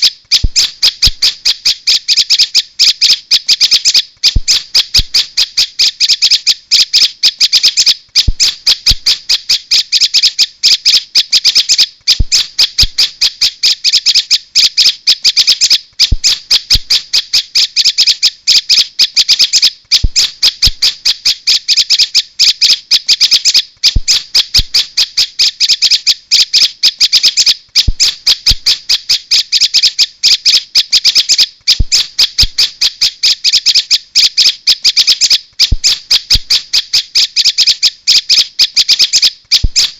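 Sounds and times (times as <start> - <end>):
rapid bird chattering call: 0.0 - 39.9.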